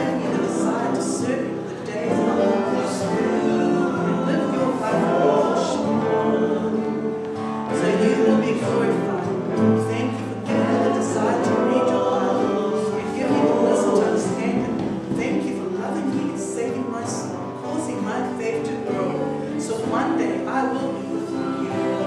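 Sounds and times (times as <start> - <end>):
worship song with voices: 0.0 - 22.0.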